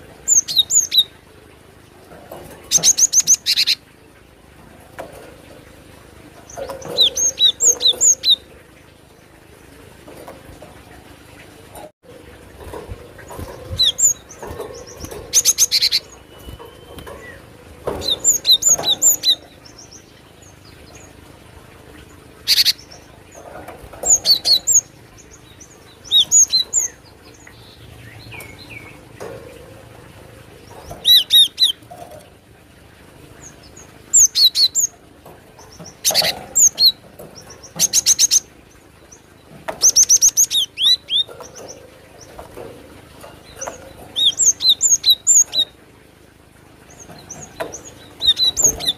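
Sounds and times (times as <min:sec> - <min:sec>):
bird chirping and buzzing: 0:00.0 - 0:48.9.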